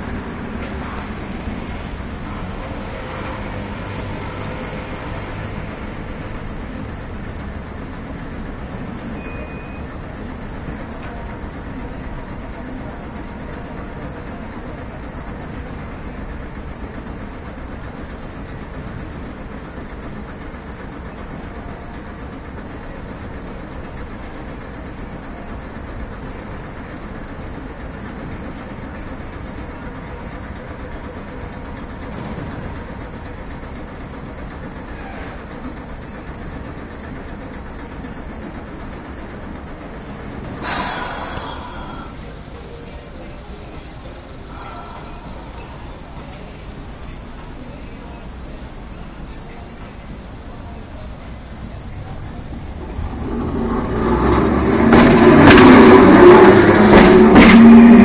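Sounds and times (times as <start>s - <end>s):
low rumble of tram and street: 0.0s - 58.0s.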